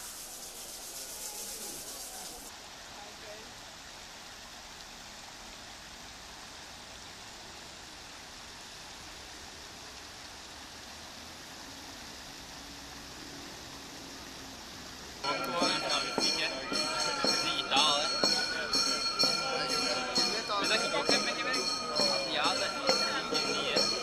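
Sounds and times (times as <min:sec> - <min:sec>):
fountain water splashing into basin: 0:00.0 - 0:24.0
river running over rocks: 0:00.0 - 0:24.0.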